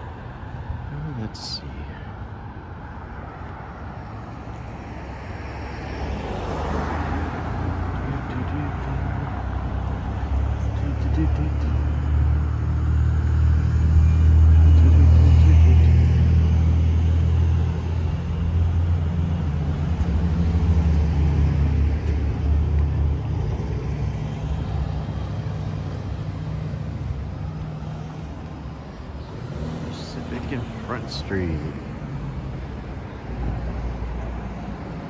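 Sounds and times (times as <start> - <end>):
motor vehicle engine rumble: 0.0 - 35.0.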